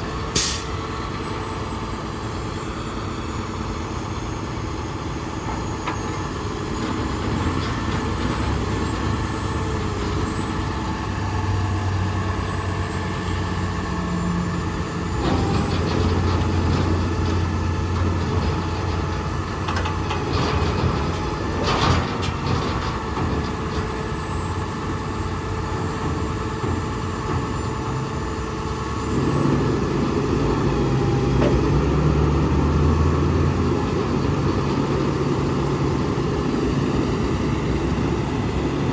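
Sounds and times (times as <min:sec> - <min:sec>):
truck diesel engine running: 0:00.0 - 0:38.9.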